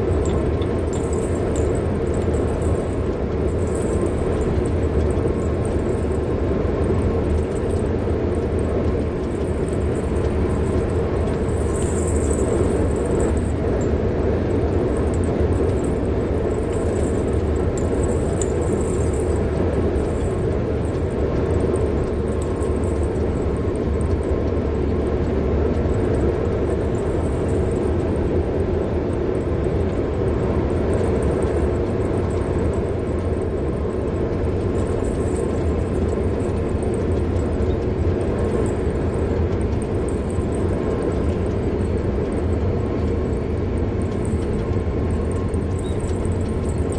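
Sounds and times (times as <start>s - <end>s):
low engine hum: 0.0s - 46.9s
road and tyre noise: 0.0s - 46.9s.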